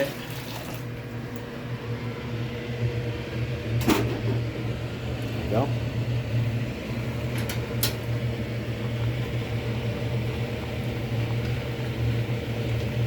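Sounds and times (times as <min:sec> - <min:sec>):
fan-like machine hum: 0:00.0 - 0:13.0.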